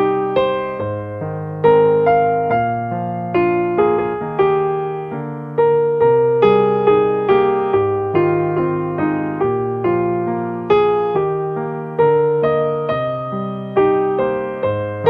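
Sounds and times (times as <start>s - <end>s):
soft electric piano music: 0.0s - 15.0s.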